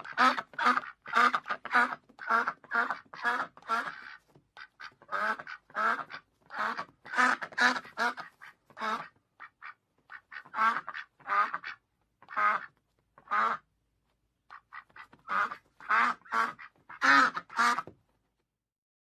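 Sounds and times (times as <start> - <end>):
duck quacking: 0.0 - 13.7, 14.5 - 17.9.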